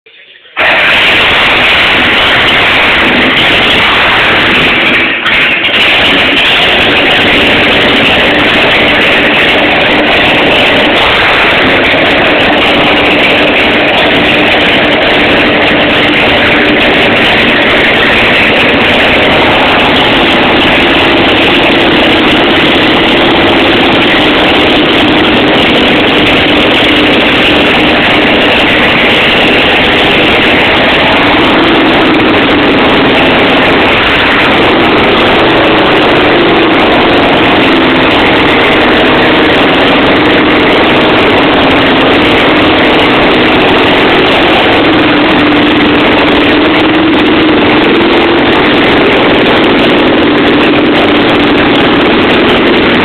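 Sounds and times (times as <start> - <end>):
motorcycle engine running loud: 0.6 - 53.0.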